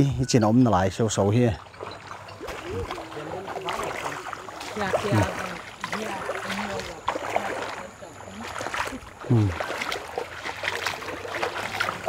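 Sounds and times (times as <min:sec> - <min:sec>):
feet splashing through water: 0:01.4 - 0:12.0.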